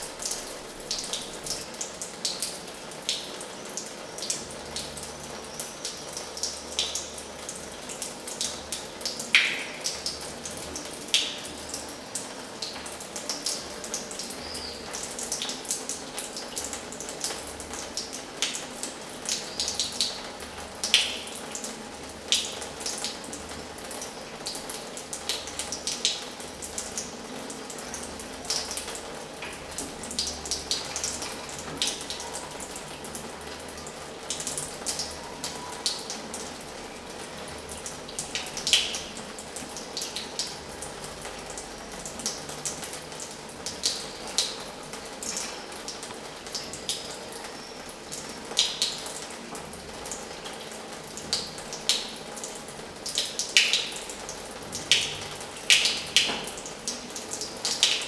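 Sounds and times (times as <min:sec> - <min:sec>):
water splashes and drips: 0:00.0 - 0:58.0.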